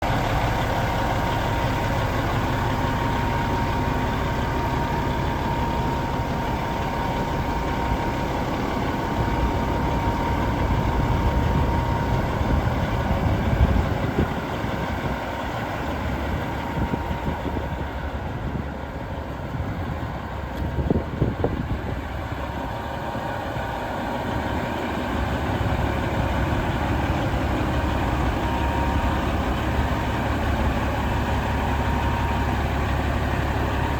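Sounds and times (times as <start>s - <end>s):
faint steady whine: 0.0s - 33.9s
truck diesel engine idling: 0.0s - 33.9s.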